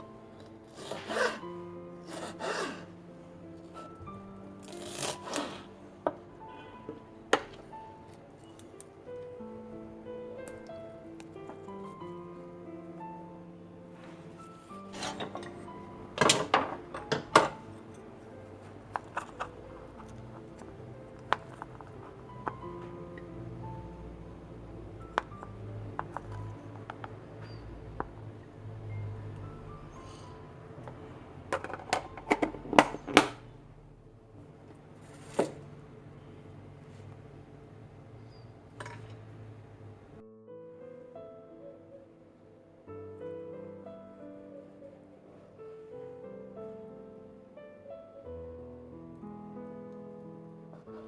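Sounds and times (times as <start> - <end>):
soft background music: 0.0 - 51.0.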